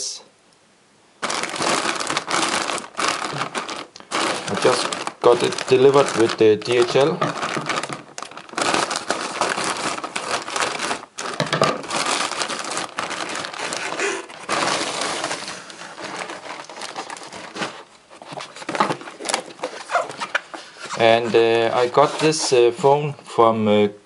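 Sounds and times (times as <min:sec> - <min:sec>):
plastic bag crinkling: 0:01.2 - 0:22.9
air-cushion wrapping crinkling: 0:01.2 - 0:23.1.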